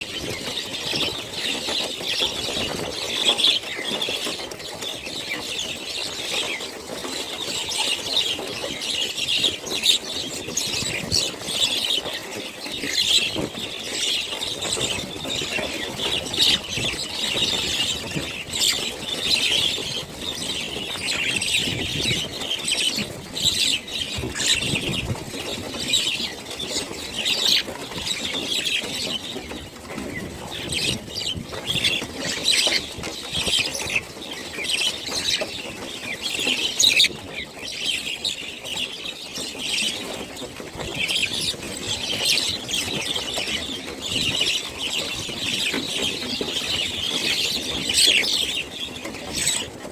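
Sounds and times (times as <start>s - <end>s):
flock of birds chattering: 0.0s - 49.9s.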